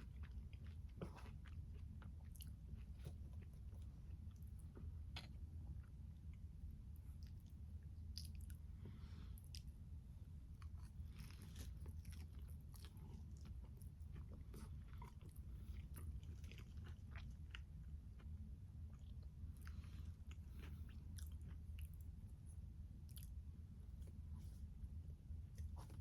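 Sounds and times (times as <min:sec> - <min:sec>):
chewing wet food: 0:00.0 - 0:24.6
low steady hum: 0:00.0 - 0:26.0.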